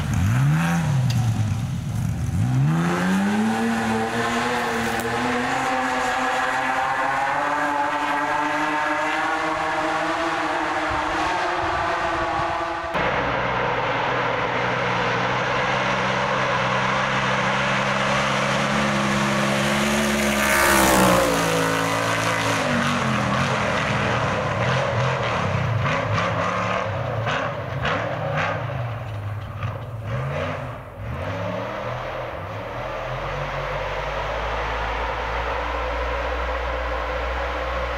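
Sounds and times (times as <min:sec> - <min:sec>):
race truck engine passing: 0:02.2 - 0:37.9.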